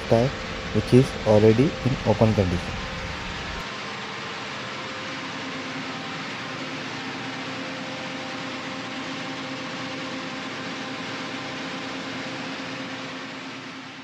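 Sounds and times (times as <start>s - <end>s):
diesel generator running: 0.0s - 14.0s.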